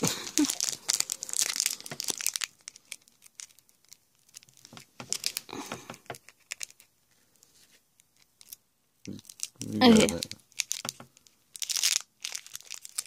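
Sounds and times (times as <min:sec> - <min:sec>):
foil wrapper crinkling and tearing: 0:00.0 - 0:06.9, 0:08.0 - 0:13.0.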